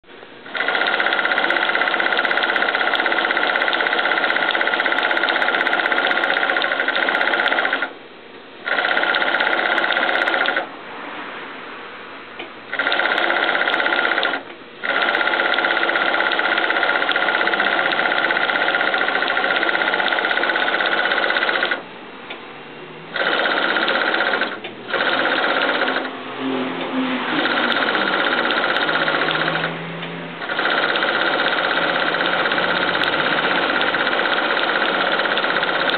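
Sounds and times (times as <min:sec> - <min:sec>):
industrial sewing machine stitching: 0:00.4 - 0:08.0, 0:08.6 - 0:10.7, 0:12.7 - 0:21.8, 0:23.1 - 0:26.2, 0:26.8 - 0:29.8, 0:30.4 - 0:35.9.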